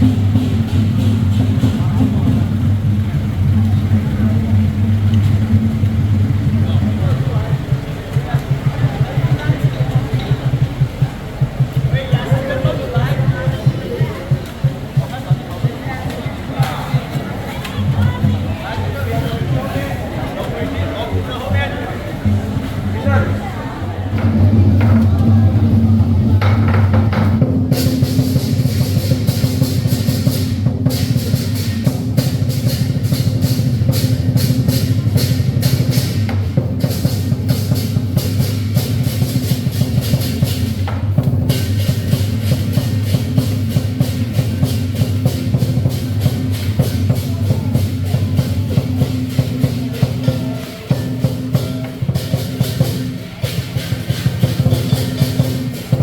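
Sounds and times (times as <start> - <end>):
clashing cymbals: 0.0 - 20.1, 24.1 - 56.0
large drum beaten fast: 0.0 - 56.0.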